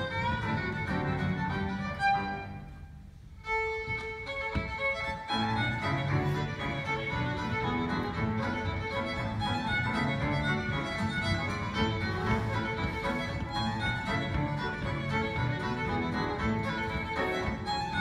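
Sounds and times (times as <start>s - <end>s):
piano accompaniment: 0.0s - 2.8s, 3.5s - 18.0s
fiddle playing lively tune: 0.0s - 18.0s.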